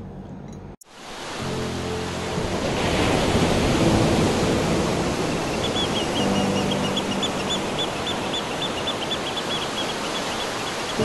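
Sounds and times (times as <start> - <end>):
surf washing over rocks: 0.9 - 11.0.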